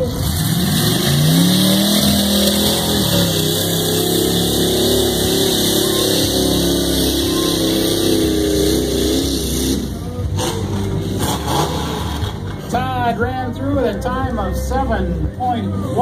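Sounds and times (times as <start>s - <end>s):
truck engine revving at full throttle: 0.0s - 16.0s.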